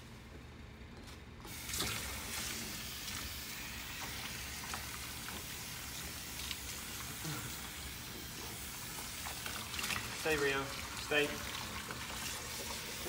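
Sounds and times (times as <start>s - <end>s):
faucet sprayer hissing: 1.5s - 13.0s.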